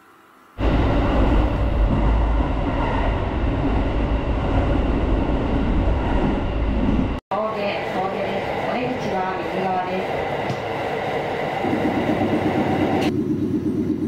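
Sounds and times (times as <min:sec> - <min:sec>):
train rumble inside carriage: 0:00.6 - 0:14.0.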